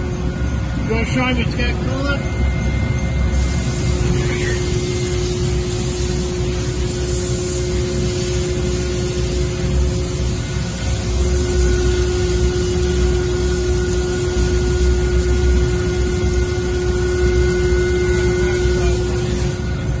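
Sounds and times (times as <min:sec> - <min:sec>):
surface grinder humming: 0:03.3 - 0:19.8.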